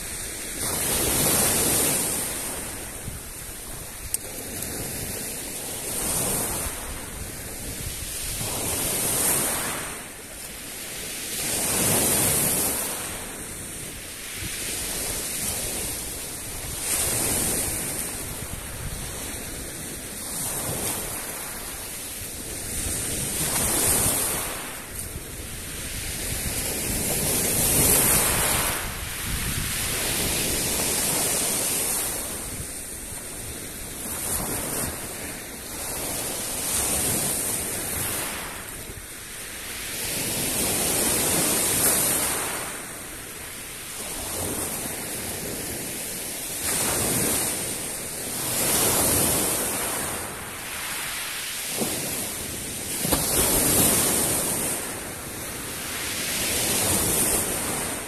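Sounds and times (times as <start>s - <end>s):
small waves breaking on shore: 0.0s - 58.0s.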